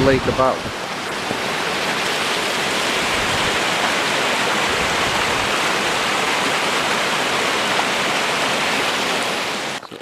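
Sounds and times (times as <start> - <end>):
rapids rushing water: 0.0 - 9.8.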